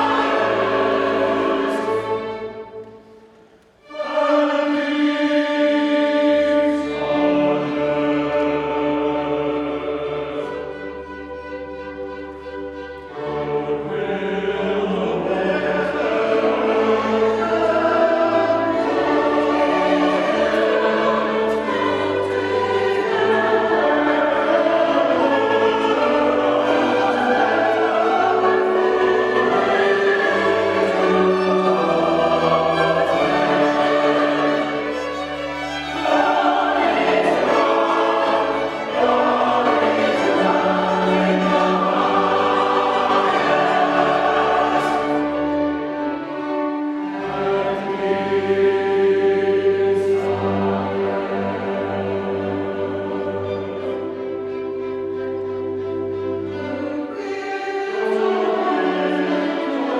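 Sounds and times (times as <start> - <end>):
choir singing with instruments: 0.0 - 59.9.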